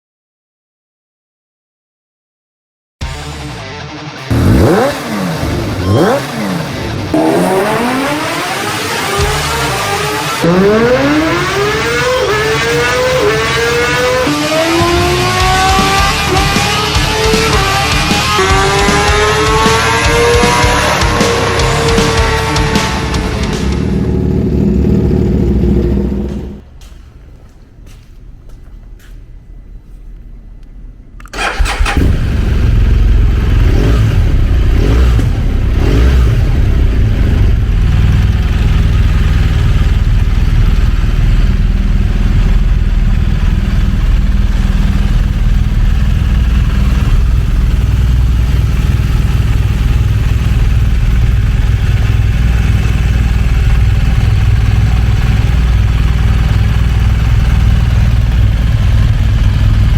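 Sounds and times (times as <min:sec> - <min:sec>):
motorcycle engine starting and idling: 0:04.2 - 0:29.2, 0:30.6 - 0:59.9.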